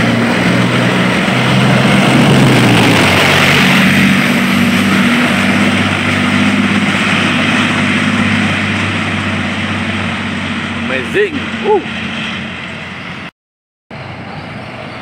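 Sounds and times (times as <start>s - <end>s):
tank diesel engine droning: 0.0s - 13.3s, 13.9s - 15.0s
tank track noise: 0.0s - 13.3s.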